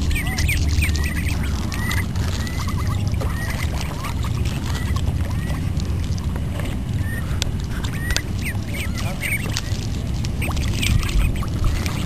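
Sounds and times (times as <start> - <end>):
ducklings peeping: 0.0 - 12.0
low rushing background noise: 0.0 - 12.0.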